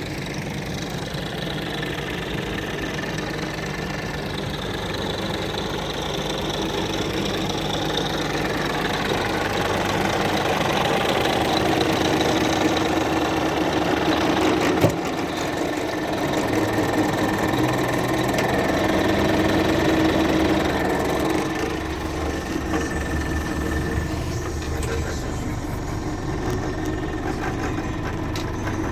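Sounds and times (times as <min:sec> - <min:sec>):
truck diesel engine running: 0:00.0 - 0:28.9.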